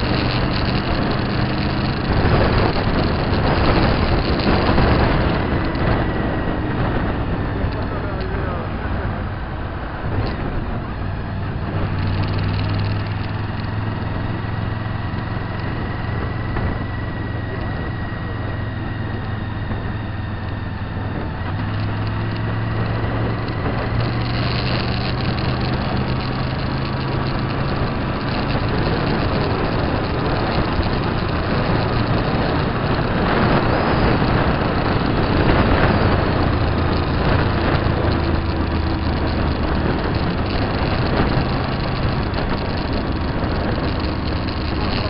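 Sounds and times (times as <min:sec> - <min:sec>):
motorcycle engine running: 0:00.0 - 0:45.0
wind rush and road noise: 0:00.0 - 0:45.0.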